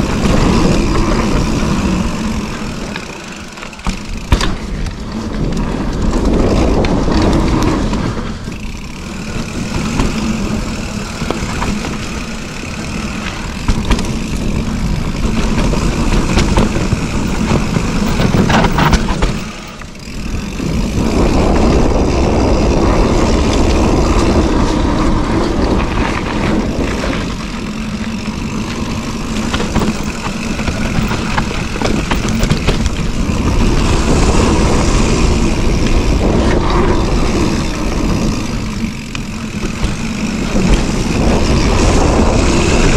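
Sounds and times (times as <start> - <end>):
bike rattling over bumps: 0.0 - 42.9
tyres rolling over dirt: 0.0 - 42.9
wind rushing on microphone: 4.1 - 42.9.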